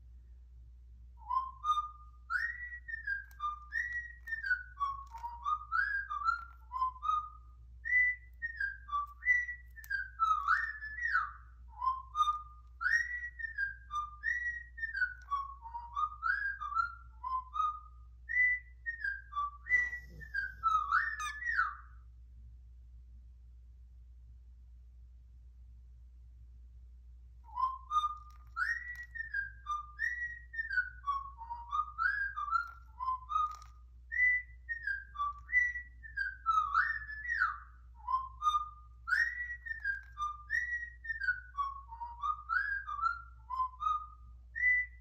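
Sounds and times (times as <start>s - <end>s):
cockatiel whistling: 1.2s - 22.0s, 27.4s - 45.0s.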